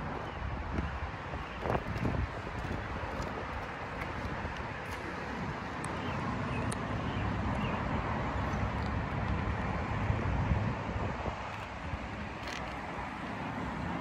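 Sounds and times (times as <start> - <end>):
traffic noise: 0.0 - 14.0
wind rumbling on microphone: 0.0 - 14.0.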